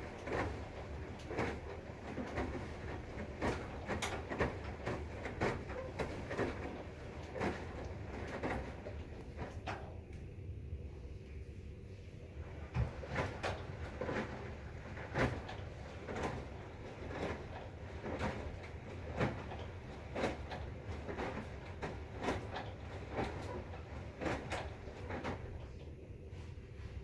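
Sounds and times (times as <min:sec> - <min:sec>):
washing machine clunks: 0:00.0 - 0:10.1, 0:12.6 - 0:25.8
washing machine humming: 0:00.0 - 0:27.0.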